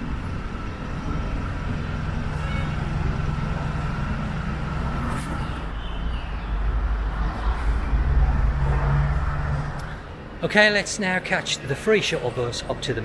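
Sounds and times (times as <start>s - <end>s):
vehicle engine humming: 0.0s - 10.6s.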